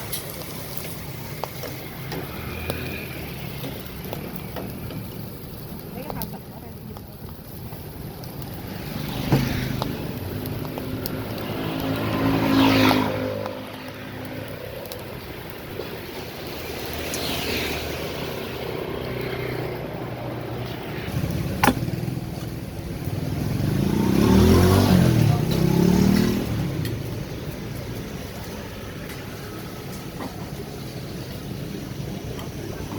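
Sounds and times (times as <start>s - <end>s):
vehicles passing: 0.0s - 32.9s.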